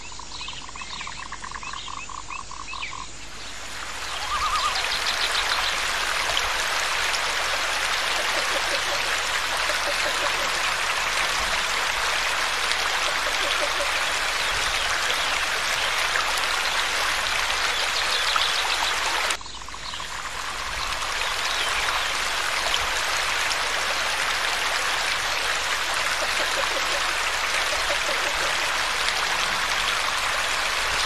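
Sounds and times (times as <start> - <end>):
stream splashing over cascade: 3.3 - 31.0.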